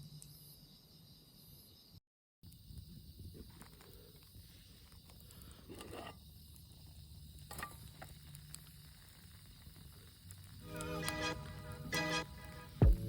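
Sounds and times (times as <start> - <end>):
insect chirping: 0.0 - 10.8.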